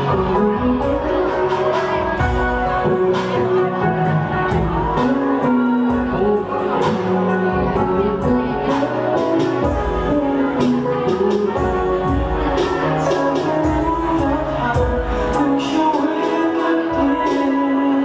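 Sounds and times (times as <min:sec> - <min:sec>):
live band playing pop song: 0:00.0 - 0:18.0.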